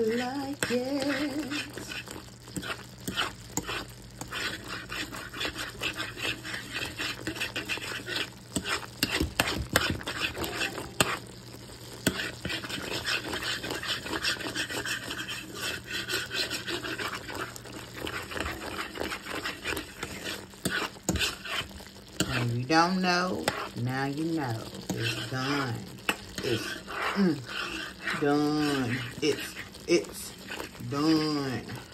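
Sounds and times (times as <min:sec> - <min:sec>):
gravy simmering: 0:00.0 - 0:31.9
utensil scraping a pot: 0:00.0 - 0:31.9.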